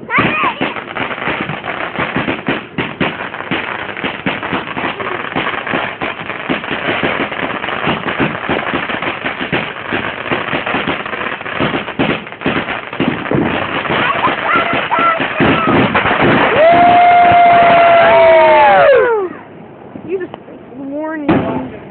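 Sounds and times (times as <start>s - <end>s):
firework crackling pops: 0.0s - 19.0s.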